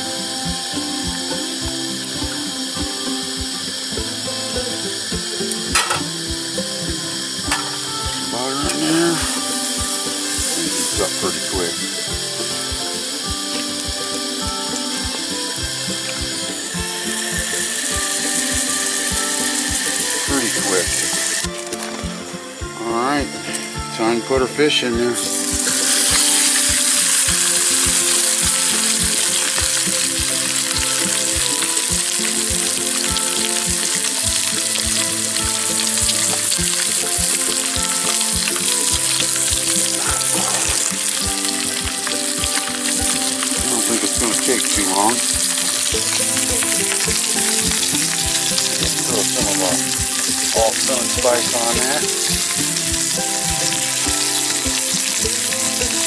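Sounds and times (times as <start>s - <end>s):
fish sizzling in butter: 0.0s - 22.2s, 25.1s - 56.0s.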